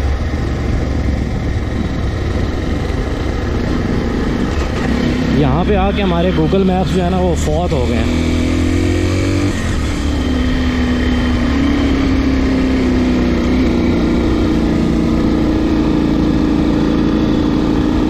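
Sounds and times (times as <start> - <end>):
motorcycle engine running: 0.0 - 18.0
road rumble: 0.0 - 18.0
wind: 0.0 - 18.0.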